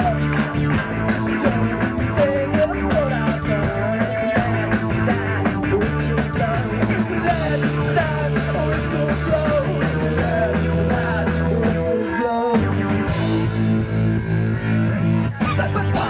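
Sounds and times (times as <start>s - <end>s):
person singing lead vocals: 0.0s - 13.6s, 14.3s - 16.0s
drums keeping a steady beat: 0.0s - 16.0s
electric bass: 0.0s - 16.0s
electric guitar: 0.0s - 16.0s.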